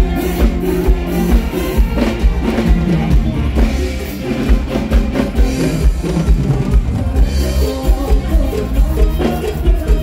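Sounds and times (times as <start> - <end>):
amplified band music: 0.0 - 10.0.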